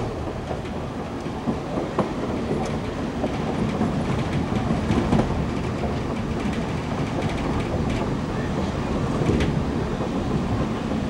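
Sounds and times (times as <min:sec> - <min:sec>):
wheels clicking over rail joints: 0:00.0 - 0:10.8
train rumbling on rails: 0:00.0 - 0:11.0.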